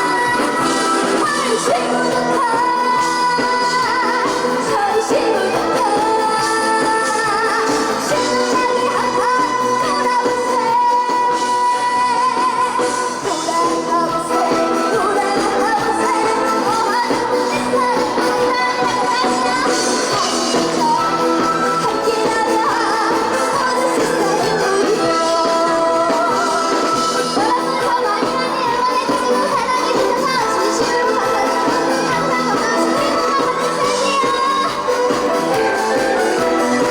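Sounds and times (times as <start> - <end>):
girl singing: 0.0 - 36.9
instrumental backing track: 0.0 - 36.9.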